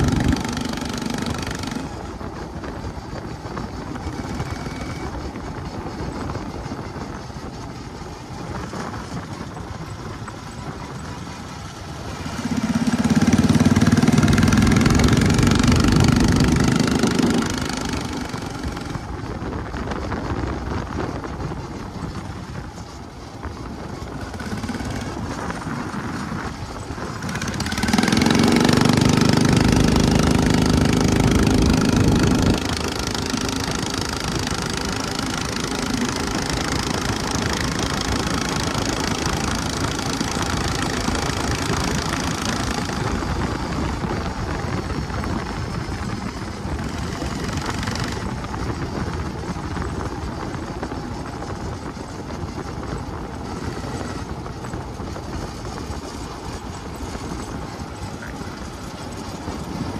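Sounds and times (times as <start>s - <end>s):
kart engine driving: 0.0s - 59.9s.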